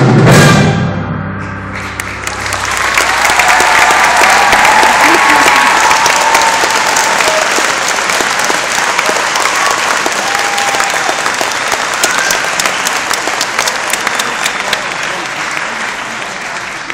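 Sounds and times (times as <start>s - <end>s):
audience applauding: 1.8s - 16.9s.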